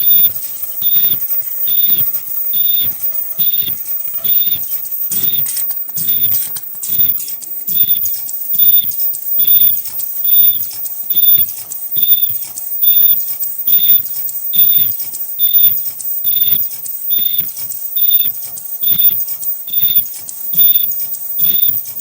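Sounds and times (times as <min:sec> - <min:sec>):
machine clatter: 0:00.0 - 0:22.0
short high-pitched machine tone: 0:00.0 - 0:22.0.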